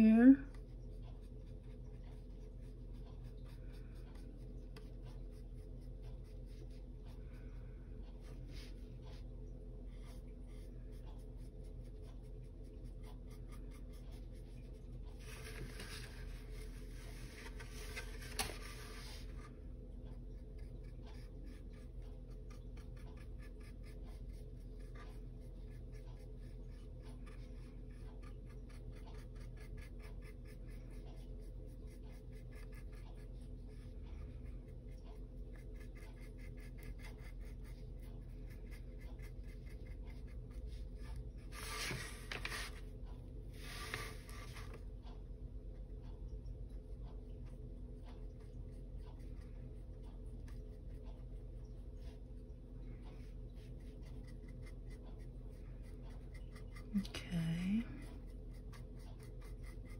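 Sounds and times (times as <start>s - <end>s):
paintbrush scratching on wood: 0.0s - 45.2s, 46.7s - 59.9s.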